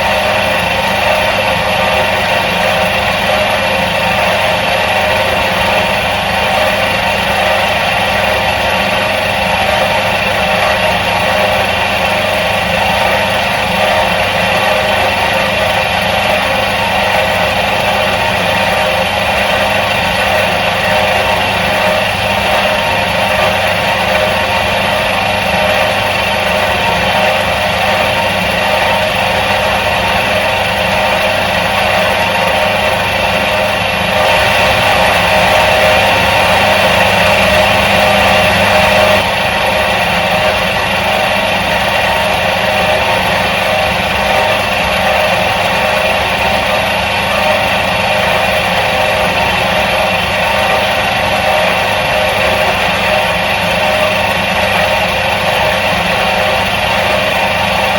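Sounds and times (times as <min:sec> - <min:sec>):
washing machine motor running: 0:00.0 - 0:57.9.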